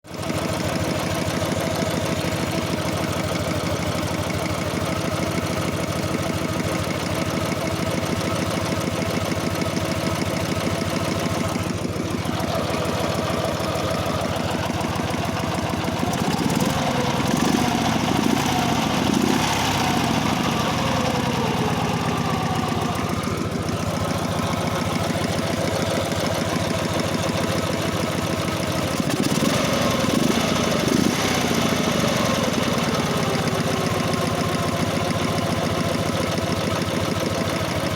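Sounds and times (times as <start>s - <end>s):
motorcycle engine knocking: 0.0s - 37.9s.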